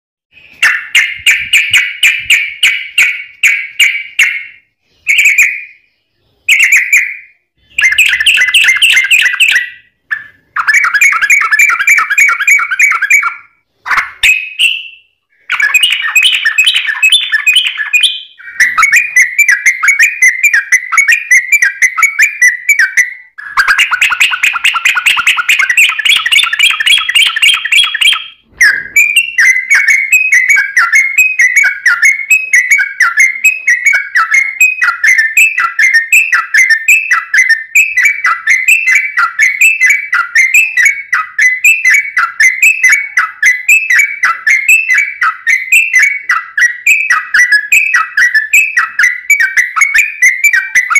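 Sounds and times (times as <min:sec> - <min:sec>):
bird singing chattering phrases: 0:00.6 - 0:50.9.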